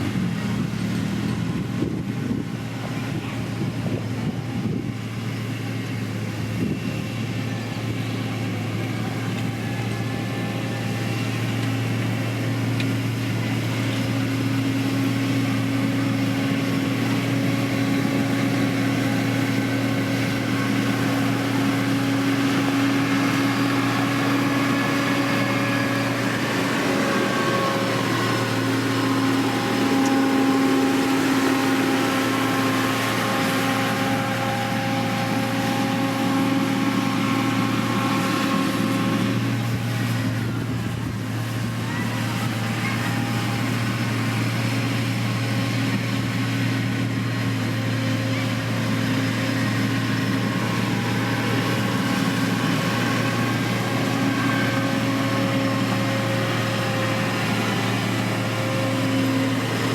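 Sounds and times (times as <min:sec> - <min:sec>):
diesel engine humming and whining: 0:00.0 - 0:59.9.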